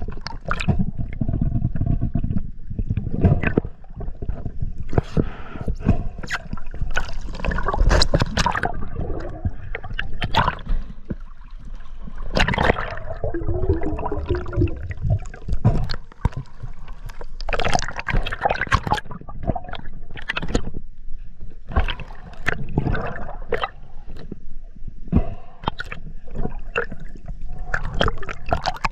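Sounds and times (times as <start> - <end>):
underwater gurgling and bubbles: 0.0 - 28.9.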